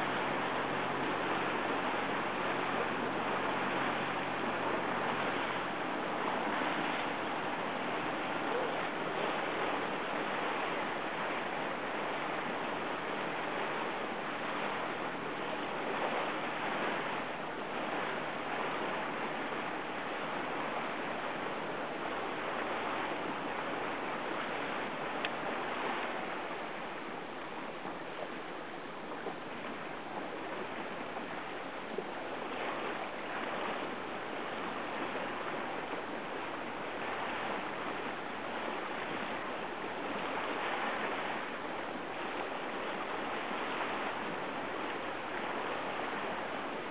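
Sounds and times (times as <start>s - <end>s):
rushing water: 0.0s - 46.9s
wind: 0.0s - 46.9s.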